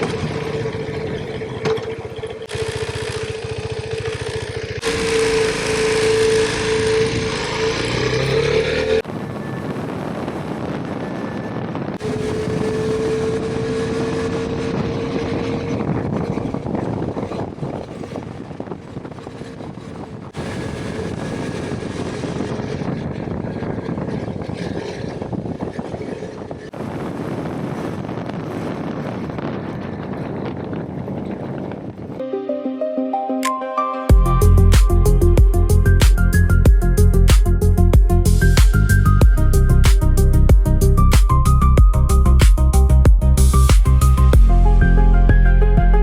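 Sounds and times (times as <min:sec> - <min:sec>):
motorcycle engine running: 0:00.0 - 0:09.6, 0:10.3 - 0:32.2, 0:34.1 - 0:45.6
wind and tyre noise: 0:00.0 - 0:32.2, 0:34.1 - 0:46.0.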